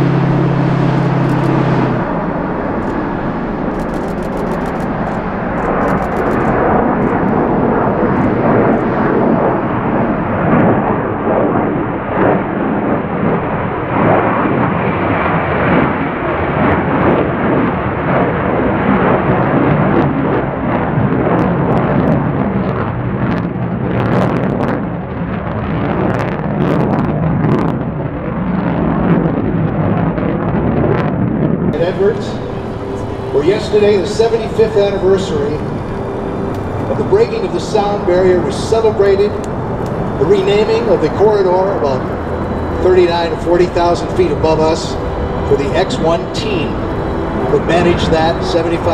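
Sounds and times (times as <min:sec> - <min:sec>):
jet bomber flying past: 0:00.0 - 0:48.9.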